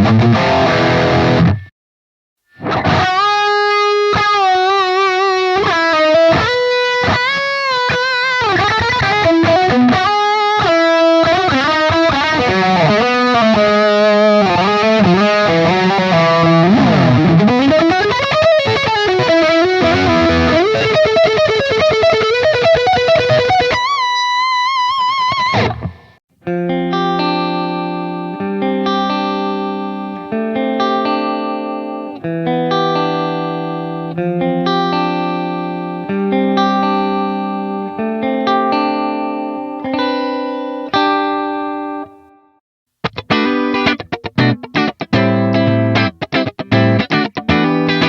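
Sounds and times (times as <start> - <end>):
distorted electric guitar lead: 0.0 - 1.7, 2.5 - 42.3, 43.0 - 48.0
clean guitar chord ringing: 0.1 - 1.7, 2.6 - 24.4, 25.4 - 42.4, 43.0 - 48.0.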